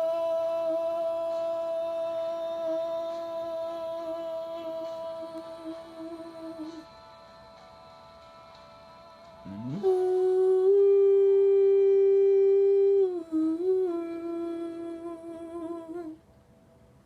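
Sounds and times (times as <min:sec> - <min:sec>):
person humming a long note: 0:00.0 - 0:07.0, 0:09.4 - 0:16.2.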